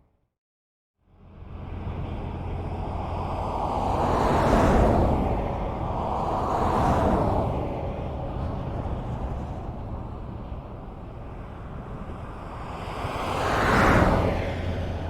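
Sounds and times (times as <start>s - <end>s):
highway traffic noise: 1.0s - 15.0s.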